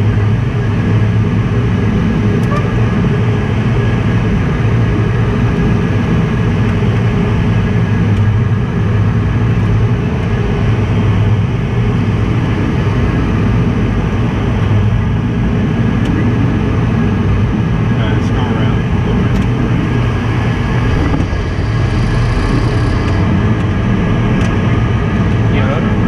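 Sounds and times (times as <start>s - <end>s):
aircraft engine and airflow hum: 0.0s - 26.0s.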